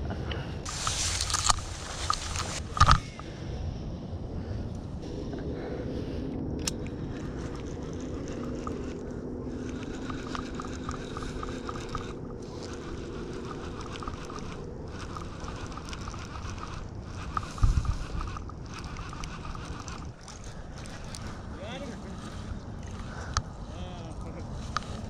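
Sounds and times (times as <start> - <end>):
fishing reel ticking: 0.6 - 3.2, 6.6 - 25.0.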